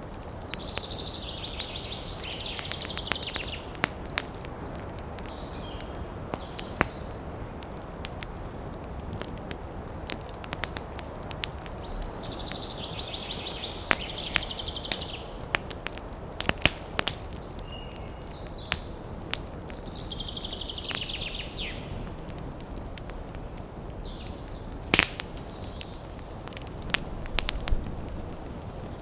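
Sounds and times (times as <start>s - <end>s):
campfire crackling and popping: 0.0s - 29.0s
wind in trees: 0.0s - 29.0s.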